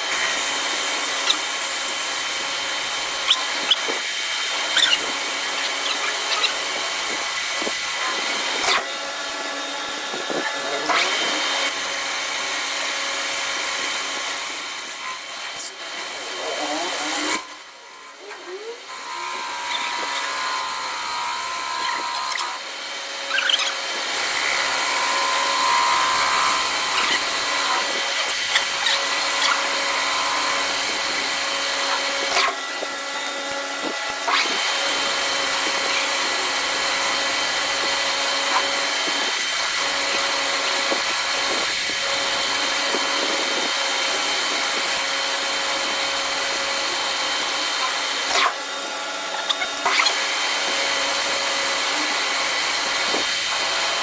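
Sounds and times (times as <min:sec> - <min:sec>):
metal lathe running: 0:00.0 - 0:54.0.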